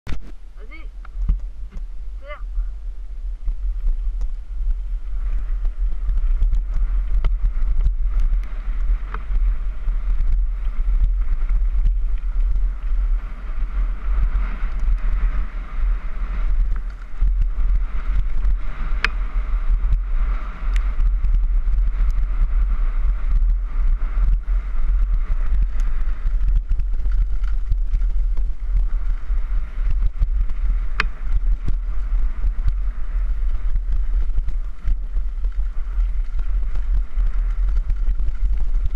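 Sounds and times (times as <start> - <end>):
wind buffeting microphone: 0.1 - 38.9
bike rattles and knocks: 5.2 - 38.9.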